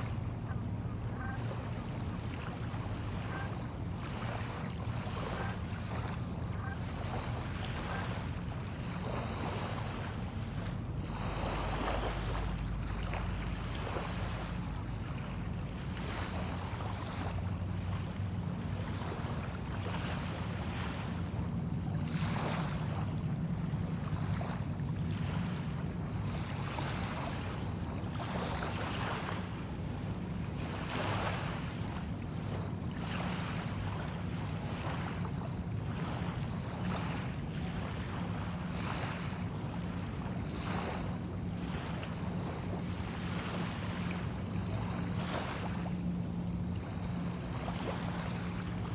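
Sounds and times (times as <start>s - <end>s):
small waves washing on sand: 2.5s - 21.2s, 21.9s - 23.2s, 23.8s - 48.9s.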